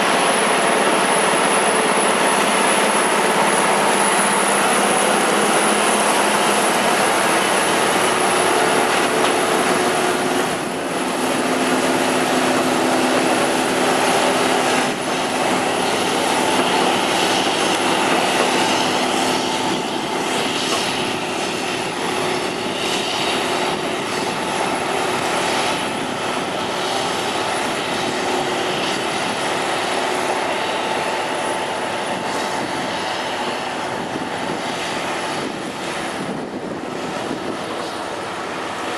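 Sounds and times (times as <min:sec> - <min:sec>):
harvester engine droning: 0:00.0 - 0:38.9.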